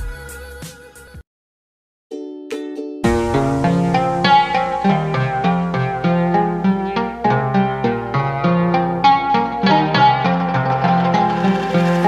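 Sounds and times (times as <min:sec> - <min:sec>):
plucked string melody: 0:02.1 - 0:12.0.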